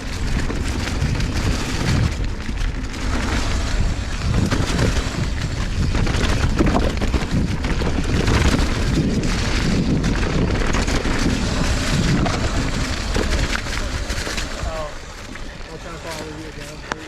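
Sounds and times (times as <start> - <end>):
bike knocks and rattles: 0.0 - 17.0
low rumble: 0.0 - 17.0
wind on microphone: 0.0 - 17.0.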